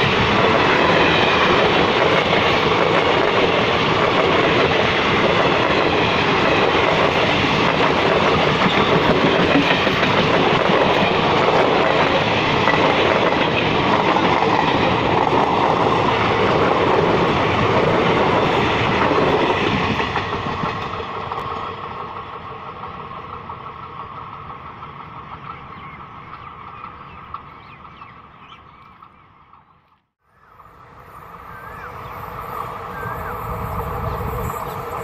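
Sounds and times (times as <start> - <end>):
train wheels clattering over rails: 0.0 - 29.7.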